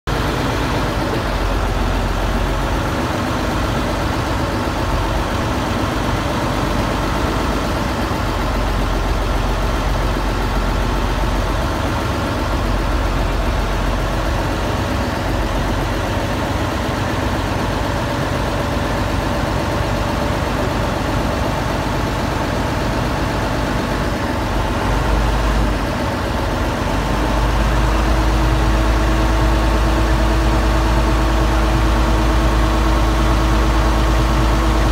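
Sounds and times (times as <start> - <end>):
boat engine deep rumble: 0.1 - 34.9.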